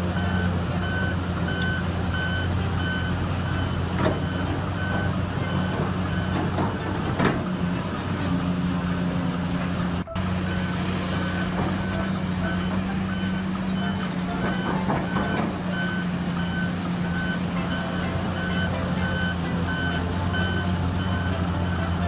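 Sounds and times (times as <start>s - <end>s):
backup alarm beeping: 0.0s - 7.1s, 10.0s - 22.0s
diesel machinery running: 0.0s - 22.0s.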